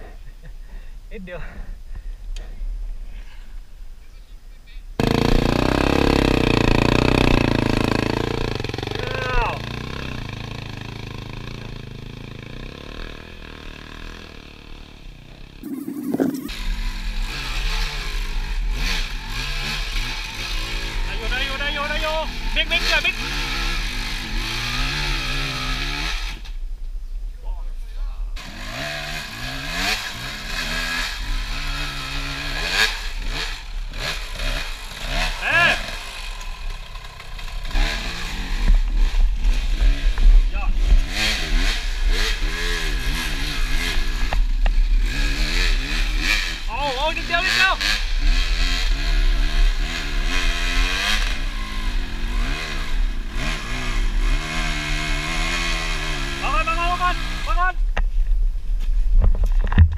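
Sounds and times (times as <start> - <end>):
dirt bike engine revving: 5.0 - 26.6, 28.4 - 57.8.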